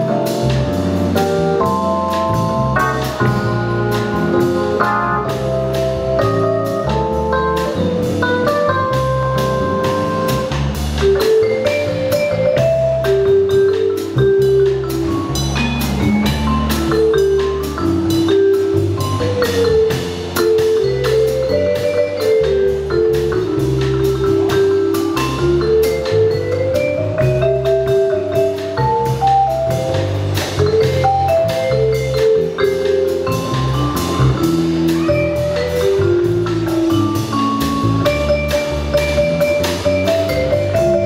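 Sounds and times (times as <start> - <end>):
instrumental band music: 0.0 - 41.0
steady drum beat: 0.0 - 41.0.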